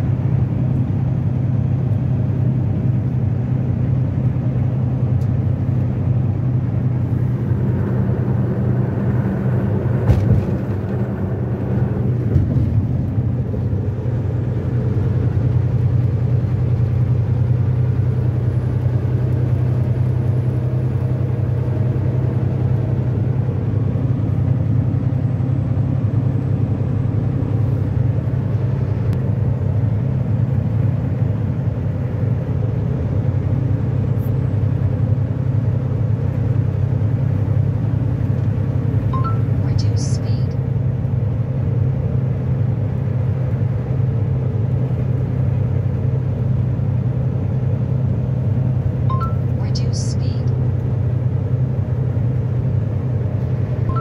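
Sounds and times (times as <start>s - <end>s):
truck cab road and engine noise: 0.0s - 54.0s.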